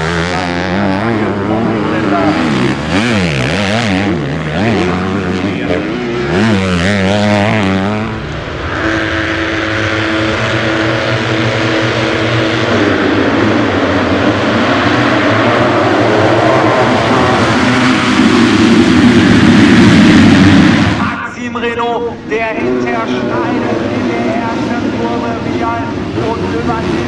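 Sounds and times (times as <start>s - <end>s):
motocross bike engine revving: 0.0s - 21.2s, 22.2s - 27.0s
pack of motocross bikes revving: 0.0s - 21.2s, 22.2s - 27.0s.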